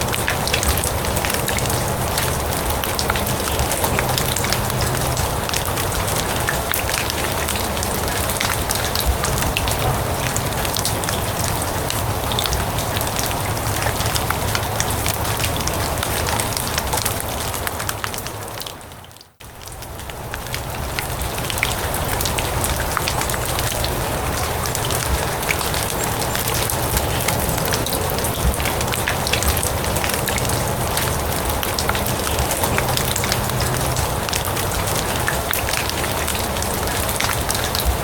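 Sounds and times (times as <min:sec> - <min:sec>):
rain on grass and leaves: 0:00.0 - 0:38.0.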